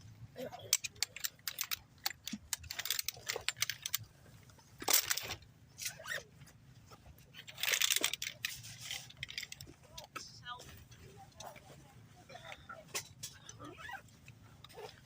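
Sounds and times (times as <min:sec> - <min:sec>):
gear clicking and rattling: 0:00.0 - 0:15.0
rustling and scraping: 0:00.6 - 0:15.0.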